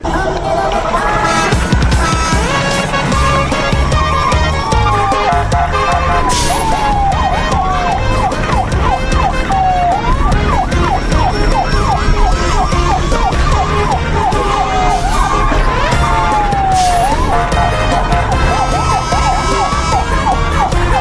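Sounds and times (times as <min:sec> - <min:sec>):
siren wailing: 0:00.0 - 0:21.0
background music with low beat: 0:01.5 - 0:21.0.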